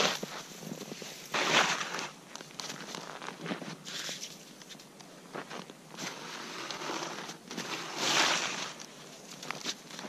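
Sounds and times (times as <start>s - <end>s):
shovel scraping snow and ice: 0.0s - 4.6s, 5.9s - 9.8s.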